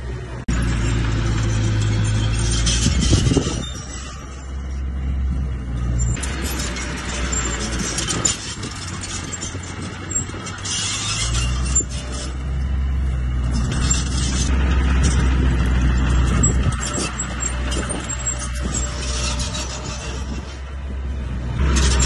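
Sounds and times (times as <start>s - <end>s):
bulldozer diesel engine: 0.0s - 22.0s
metal track clatter: 0.5s - 4.8s, 5.7s - 12.6s, 13.4s - 20.7s, 21.6s - 22.0s.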